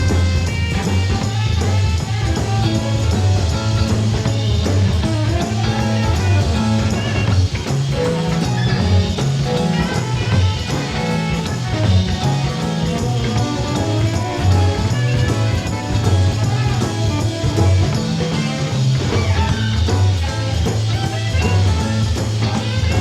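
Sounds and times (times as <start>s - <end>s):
bass line: 0.0s - 23.0s
drums: 0.0s - 23.0s
rock band jamming: 0.0s - 23.0s.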